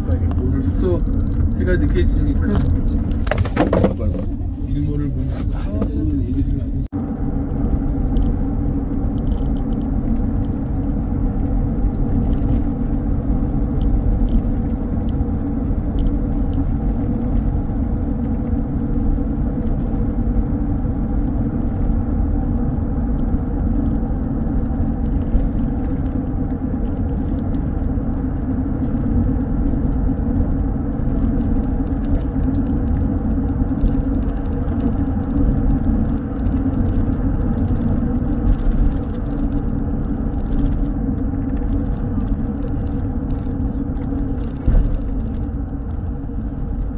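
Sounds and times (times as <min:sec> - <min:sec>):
road and engine rumble in car: 0:00.0 - 0:46.9.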